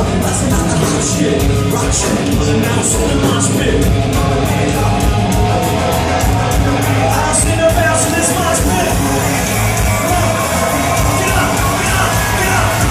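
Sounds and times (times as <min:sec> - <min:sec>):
rap-metal band playing live: 0:00.0 - 0:12.9.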